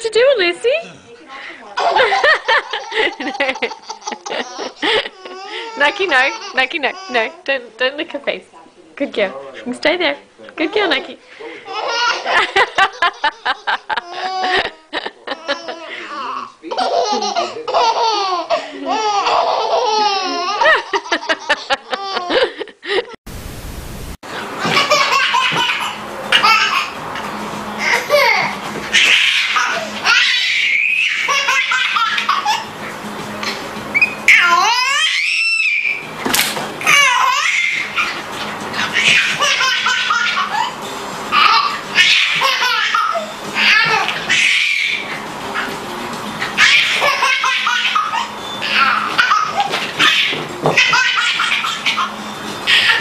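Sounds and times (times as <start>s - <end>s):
baby laughing: 1.8s - 7.4s, 11.4s - 22.6s, 24.6s - 32.7s, 33.4s - 36.0s, 36.8s - 45.8s, 46.4s - 53.0s.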